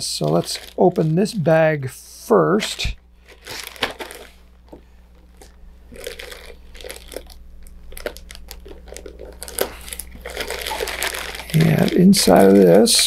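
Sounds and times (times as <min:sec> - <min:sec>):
plastic bag crinkling: 0:00.0 - 0:01.5, 0:02.5 - 0:13.0.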